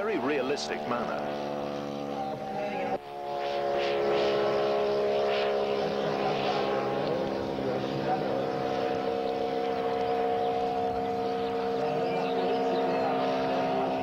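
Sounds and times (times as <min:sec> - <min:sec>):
model airplane engine droning: 0:00.0 - 0:14.0.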